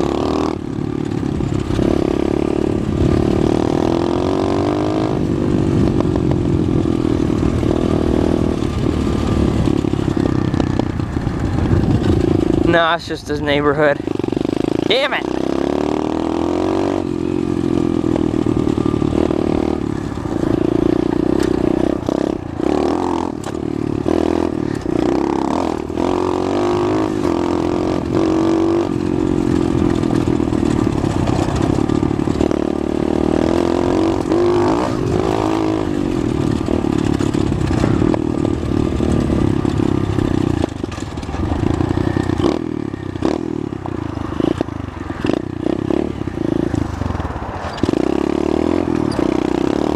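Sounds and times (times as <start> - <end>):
pit bike engine running: 0.0 - 49.9.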